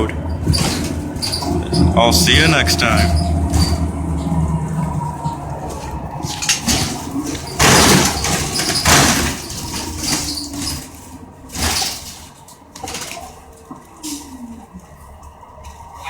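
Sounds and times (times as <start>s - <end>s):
soft knocks and rattles: 0.0s - 14.3s.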